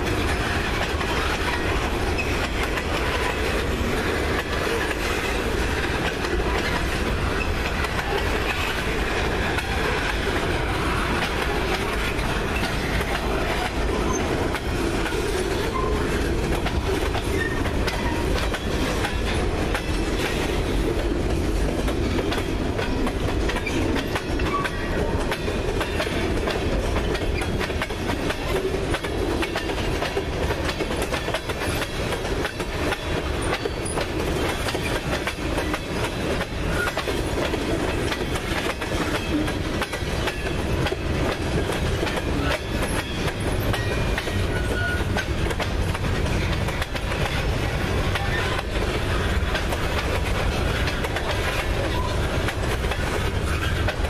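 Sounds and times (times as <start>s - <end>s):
train wheels rumbling on rails: 0.0s - 54.0s
wheels clicking on rails: 0.0s - 54.0s.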